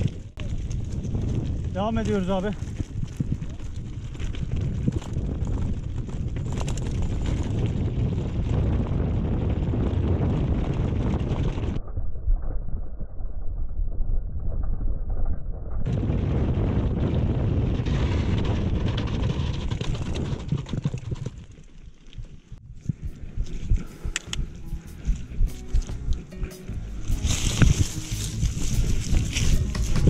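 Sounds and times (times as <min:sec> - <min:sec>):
wind buffeting microphone: 0:00.0 - 0:21.5, 0:22.4 - 0:30.0
bike ride rumble: 0:00.0 - 0:30.0.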